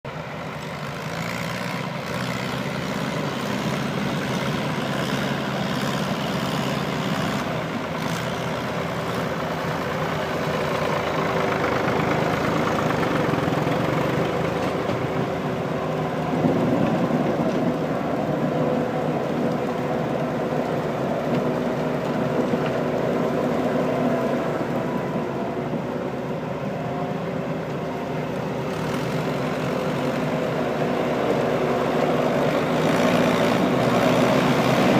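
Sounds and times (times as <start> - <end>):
harvesting machine engine running: 0.1 - 34.9.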